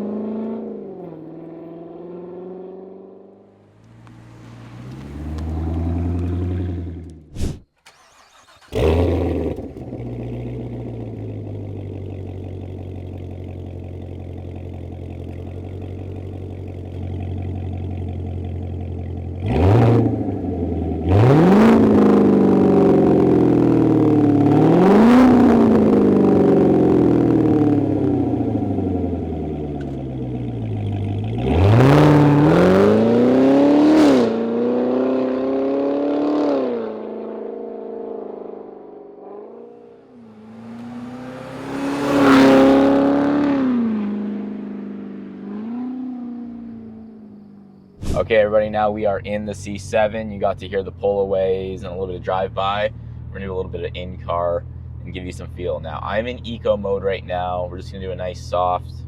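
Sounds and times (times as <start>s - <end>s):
car engine starting and revving: 0.0s - 59.0s.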